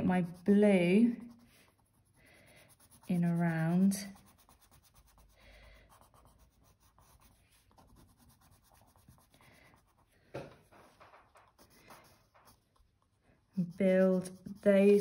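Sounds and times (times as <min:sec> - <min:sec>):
pencil shading on paper: 0:00.0 - 0:10.2, 0:10.9 - 0:15.0.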